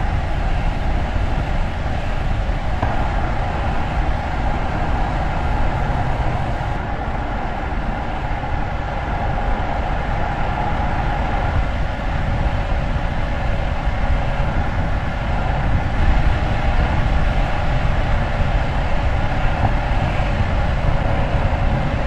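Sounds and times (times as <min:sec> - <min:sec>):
vehicle running rumble: 0:00.0 - 0:22.0.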